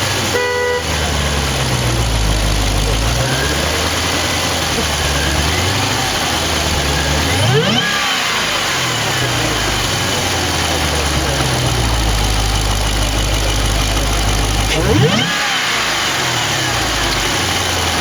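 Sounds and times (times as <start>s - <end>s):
car engine idling and revving: 0.0s - 18.0s
supercharger whine: 0.0s - 18.0s.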